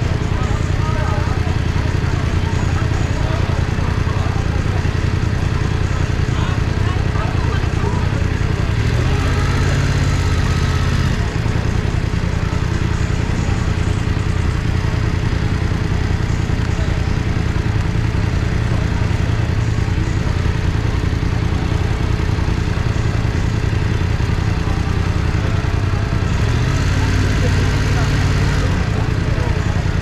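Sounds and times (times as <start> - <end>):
motorcycle engine rumbling: 0.0 - 30.0.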